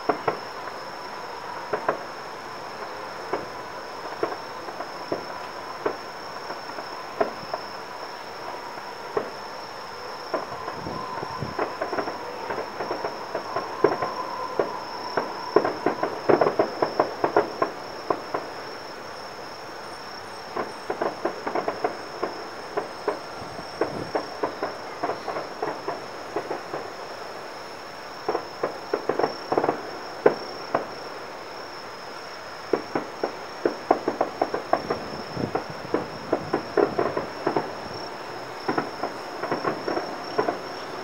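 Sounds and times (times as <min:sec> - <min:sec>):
distant fireworks cracking: 0:00.0 - 0:19.0, 0:19.9 - 0:27.5, 0:28.1 - 0:41.0
insects trilling: 0:00.0 - 0:41.0.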